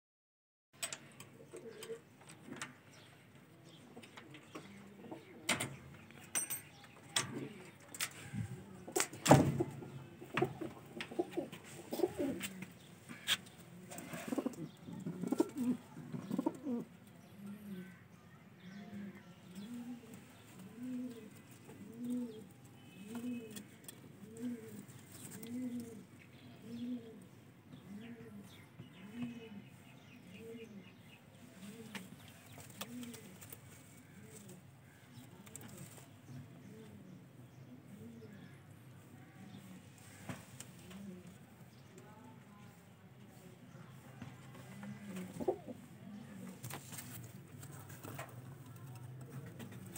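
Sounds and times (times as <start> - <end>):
pigeons cooing: 1.3 - 3.1, 3.7 - 5.9, 7.2 - 18.0, 18.6 - 38.7, 39.4 - 41.8, 44.4 - 49.9.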